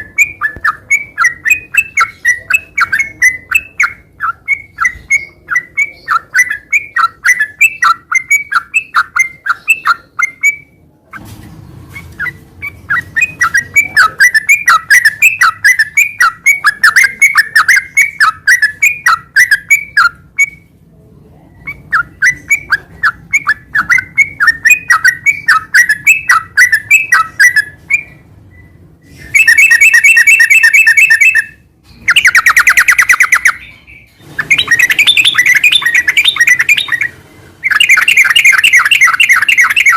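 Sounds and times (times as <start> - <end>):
bird chirping song: 0.0 - 20.8, 21.4 - 39.9.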